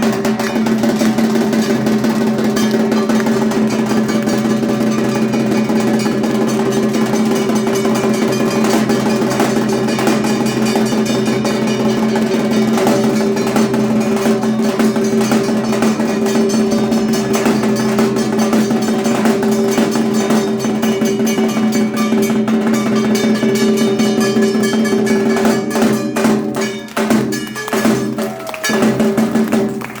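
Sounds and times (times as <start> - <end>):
drums beating fast rhythm: 0.0 - 30.0.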